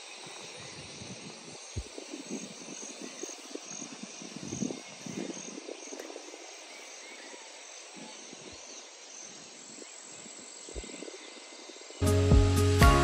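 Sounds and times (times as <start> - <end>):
crickets chirring: 0.0 - 12.1.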